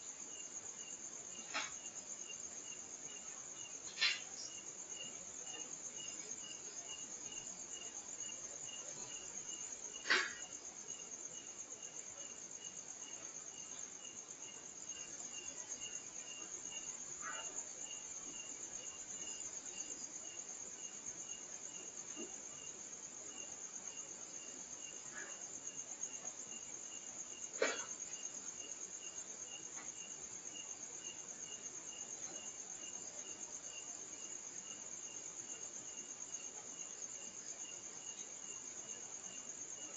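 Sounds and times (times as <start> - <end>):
cricket trill: 0.0 - 39.9
insect chirping: 0.0 - 39.9.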